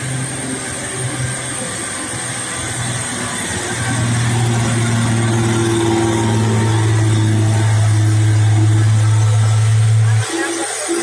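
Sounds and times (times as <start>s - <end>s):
diesel truck engine humming: 0.0s - 11.0s.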